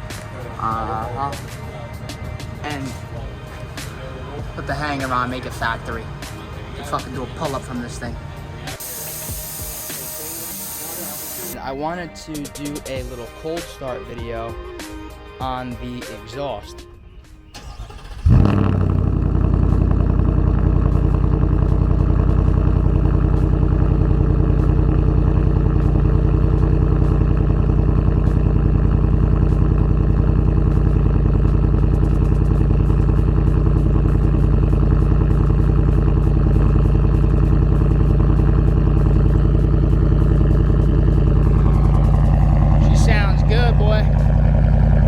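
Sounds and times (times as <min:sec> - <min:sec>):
truck engine starting and idling: 0:00.0 - 0:13.4, 0:16.9 - 0:45.0.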